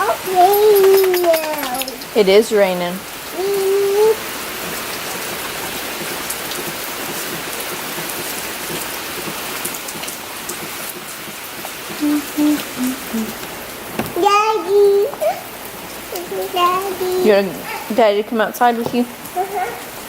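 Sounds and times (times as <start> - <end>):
rain drops ticking: 0.0 - 20.0
steady rain hiss: 0.0 - 20.0.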